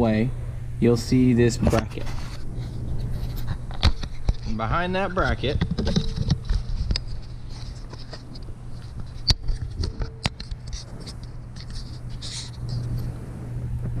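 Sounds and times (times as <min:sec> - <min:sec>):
steady low hum: 0:00.0 - 0:14.0
fingers rubbing on camera: 0:01.6 - 0:04.7, 0:05.6 - 0:14.0.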